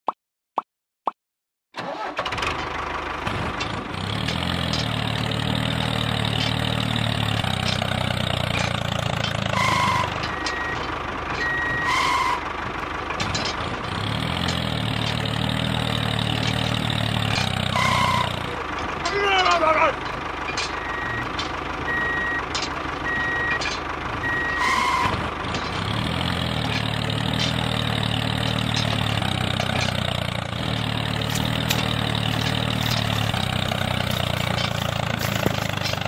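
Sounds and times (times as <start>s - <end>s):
vehicle engine running: 1.9s - 36.0s.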